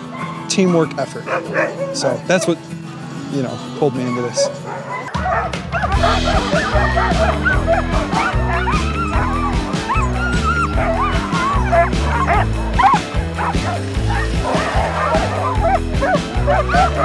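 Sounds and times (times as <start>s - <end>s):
sled dogs barking and yelping: 0.0s - 2.7s, 4.0s - 17.0s
background music with steady beat: 0.0s - 17.0s.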